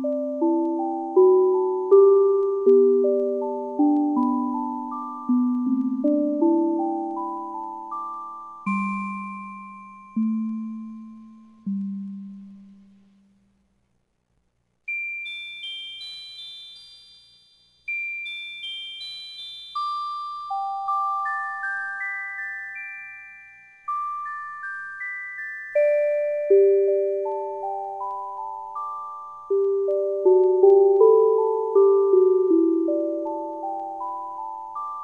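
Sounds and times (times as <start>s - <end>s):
music-box melody: 0.0s - 12.3s, 14.9s - 35.0s.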